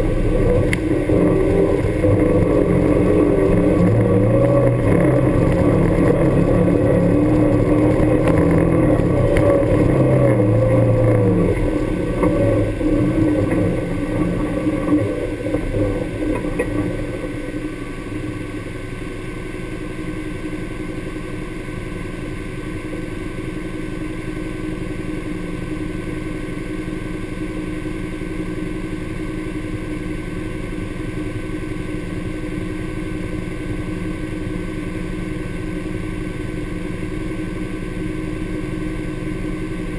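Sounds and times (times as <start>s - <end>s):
vehicle engine revving and idling: 0.0s - 39.9s.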